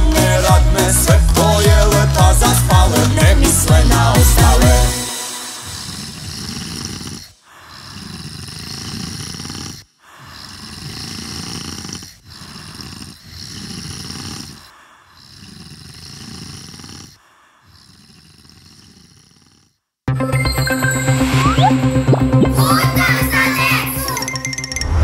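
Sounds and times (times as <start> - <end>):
cartoon snoring: 0.0 - 20.0, 21.2 - 24.3.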